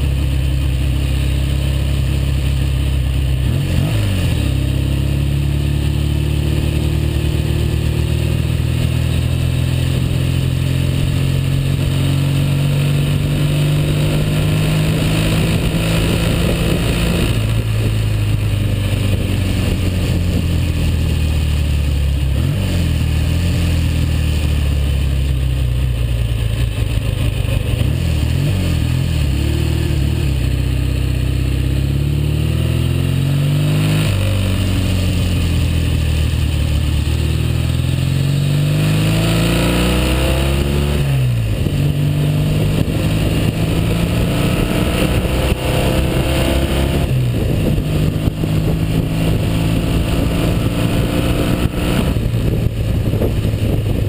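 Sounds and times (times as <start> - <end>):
motorcycle engine running under load: 0.0 - 54.0.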